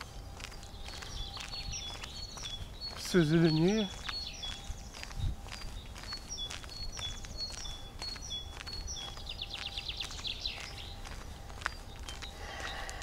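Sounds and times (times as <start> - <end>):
footsteps on a dirt path: 0.0 - 13.0
songbird singing: 0.0 - 13.0.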